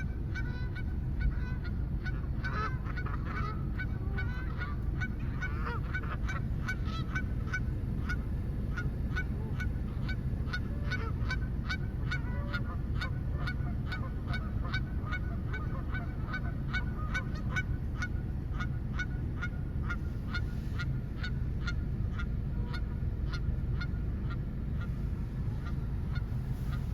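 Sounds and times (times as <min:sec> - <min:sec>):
geese honking: 0:00.0 - 0:26.9
steady low rumble: 0:00.0 - 0:26.9.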